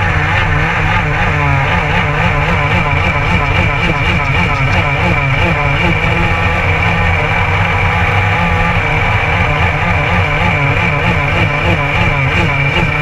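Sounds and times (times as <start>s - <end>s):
go-kart engine racing: 0.0s - 13.0s.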